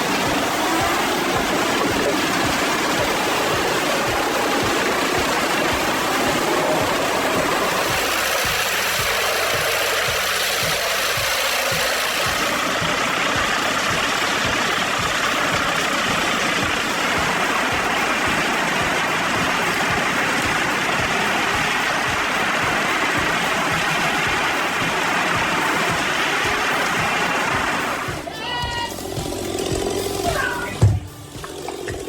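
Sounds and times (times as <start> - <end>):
heavy machine engine running: 0.0 - 32.0.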